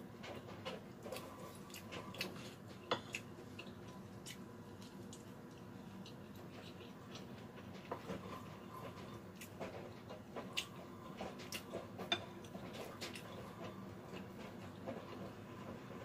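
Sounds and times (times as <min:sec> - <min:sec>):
soft chewing: 0:00.1 - 0:16.0.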